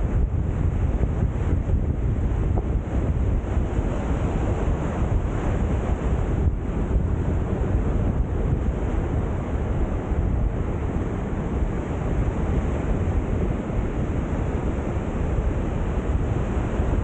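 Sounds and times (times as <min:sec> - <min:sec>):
sea surf washing onto beach: 0:00.0 - 0:17.0
wind buffeting microphone: 0:00.0 - 0:17.0.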